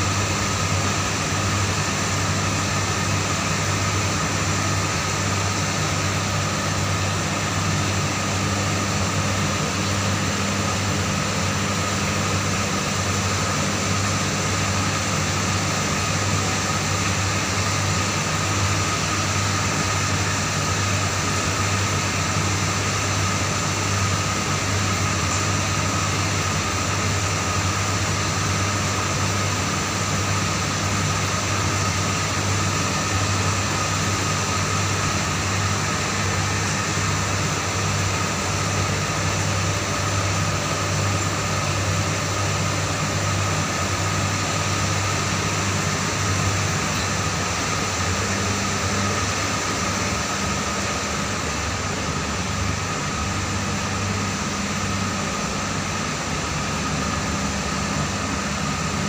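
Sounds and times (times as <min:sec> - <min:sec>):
mechanical hum: 0:00.0 - 0:59.0.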